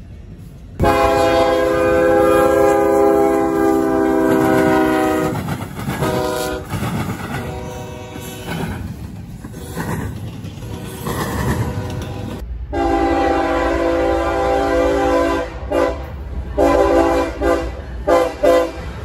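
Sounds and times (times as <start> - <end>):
freight train rolling past: 0.0 - 19.0
train air horn blasts: 0.8 - 6.8, 7.4 - 8.7, 10.6 - 19.0.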